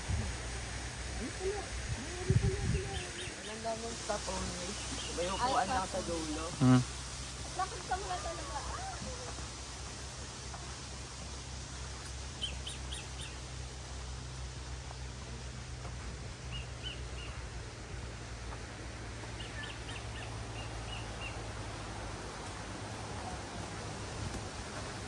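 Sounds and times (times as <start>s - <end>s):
low outdoor rumble: 0.0s - 25.0s
small birds chirping: 1.2s - 17.8s, 19.0s - 22.5s.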